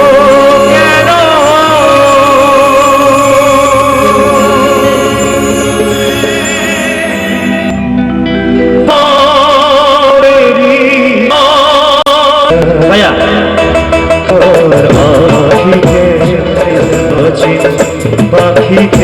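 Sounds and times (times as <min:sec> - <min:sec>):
live band music: 0:00.0 - 0:11.1, 0:12.5 - 0:19.0.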